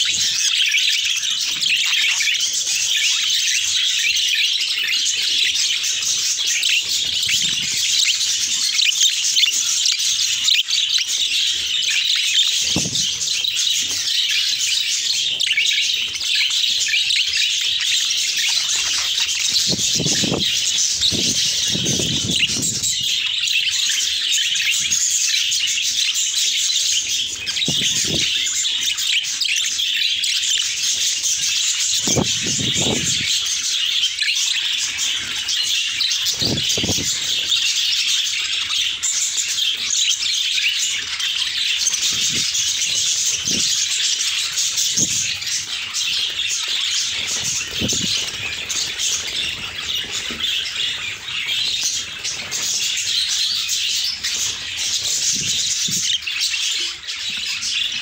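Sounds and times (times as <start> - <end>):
budgerigars chattering and warbling: 0.0 - 58.0.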